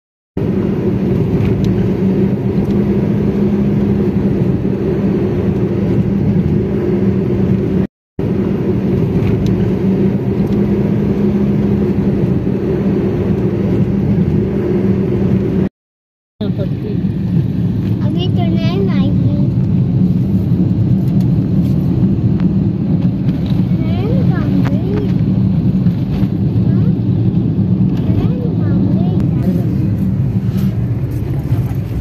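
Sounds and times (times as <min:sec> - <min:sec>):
car road and engine noise: 0:00.4 - 0:15.7, 0:16.4 - 0:32.0.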